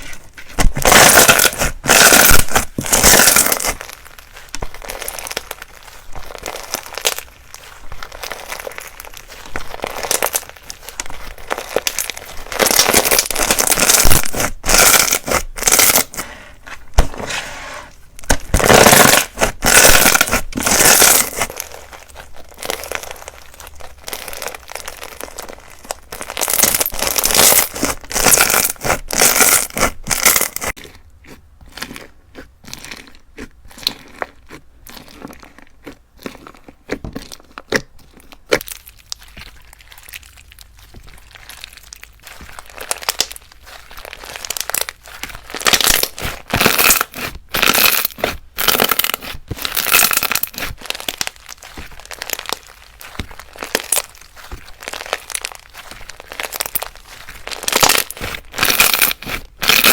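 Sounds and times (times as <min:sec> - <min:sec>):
slime crackling and crunching: 0:00.0 - 0:59.9.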